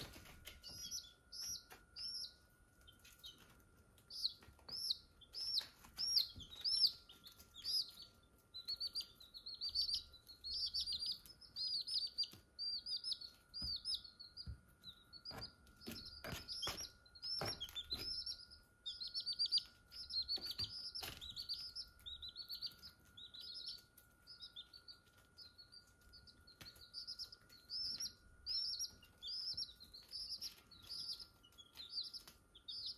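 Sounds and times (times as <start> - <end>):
chicks peeping: 0.0 - 32.9.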